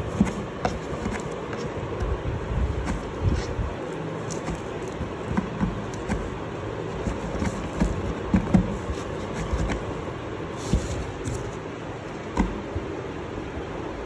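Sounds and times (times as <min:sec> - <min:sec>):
cardboard scratching and rustling: 0:00.0 - 0:12.7
rumbling background: 0:00.0 - 0:14.0.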